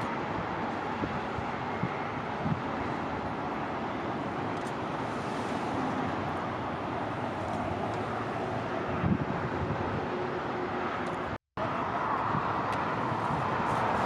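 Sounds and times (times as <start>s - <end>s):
traffic hiss and rumble: 0.0s - 14.0s.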